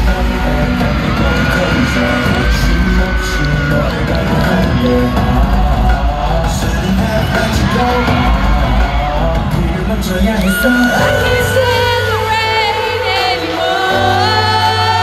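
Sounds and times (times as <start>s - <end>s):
audience screaming and whooping: 0.0s - 15.0s
loud pop music through sound system: 0.0s - 15.0s.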